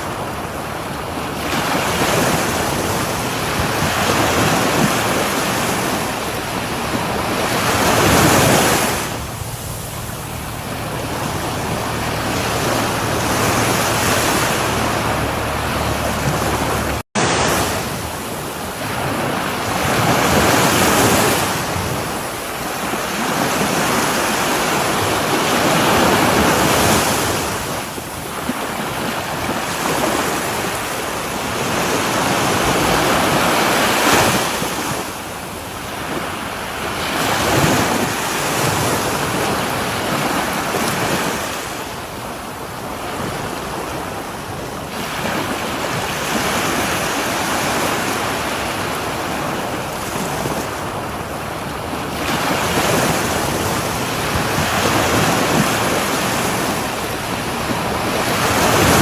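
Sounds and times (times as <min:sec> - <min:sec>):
sea surf breaking on shore: 0:00.0 - 0:59.0.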